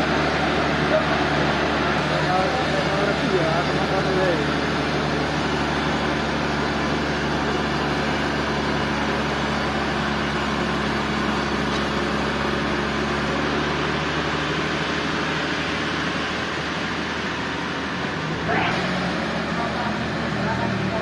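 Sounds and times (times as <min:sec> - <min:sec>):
sawmill machinery droning: 0:00.0 - 0:21.0.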